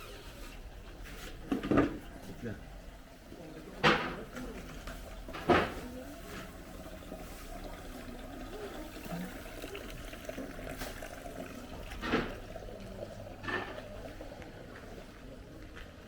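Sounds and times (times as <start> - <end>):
street background noise: 0.0 - 16.0
faint murmur of voices: 1.0 - 16.0.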